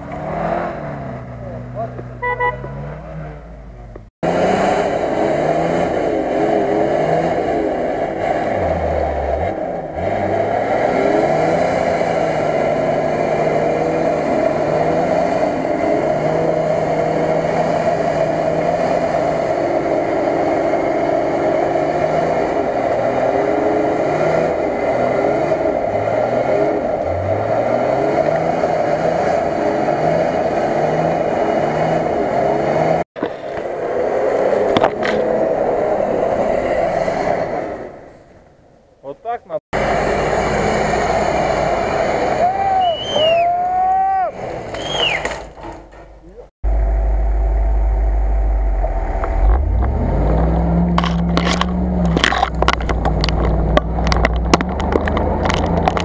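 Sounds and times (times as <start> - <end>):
engine revving under load: 0.0 - 38.4, 39.7 - 46.0, 46.6 - 56.0.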